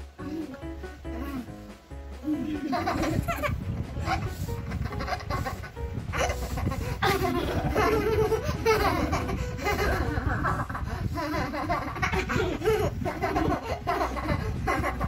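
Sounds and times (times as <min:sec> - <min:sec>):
children laughing and giggling: 0:00.2 - 0:15.0.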